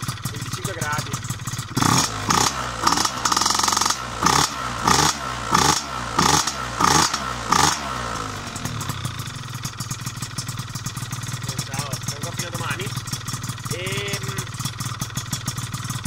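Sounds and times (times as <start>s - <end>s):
scooter engine revving and idling: 0.0s - 16.0s.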